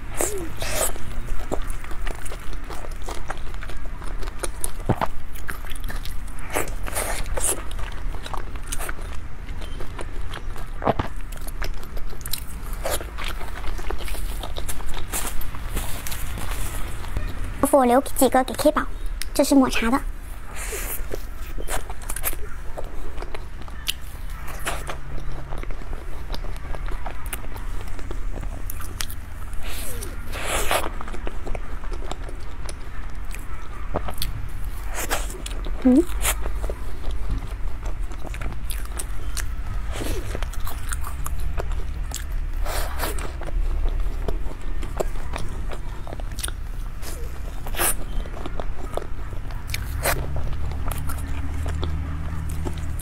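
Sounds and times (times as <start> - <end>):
person chewing with mouth clicks: 0.0 - 17.2, 20.4 - 53.0.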